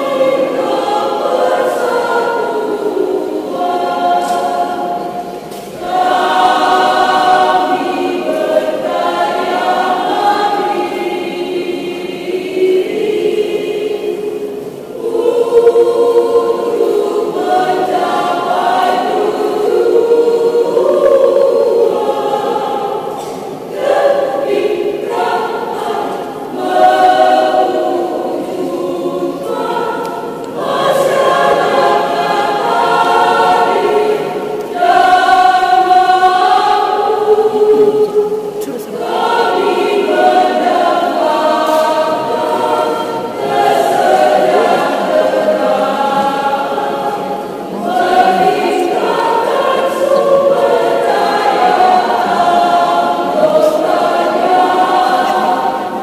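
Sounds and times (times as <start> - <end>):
women's choir singing: 0.0 - 56.0.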